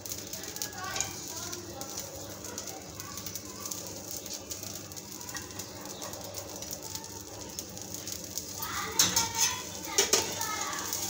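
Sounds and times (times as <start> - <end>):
dosa sizzling on a griddle: 0.0 - 11.0
faint crackles: 0.0 - 11.0.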